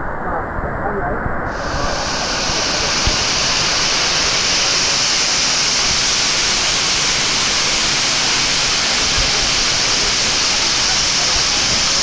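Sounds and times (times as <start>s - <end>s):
waterfall rushing: 1.5s - 12.0s.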